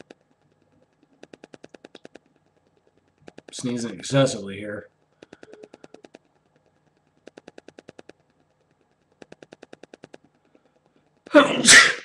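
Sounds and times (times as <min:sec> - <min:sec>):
faint rapid clicks: 0:00.0 - 0:11.4.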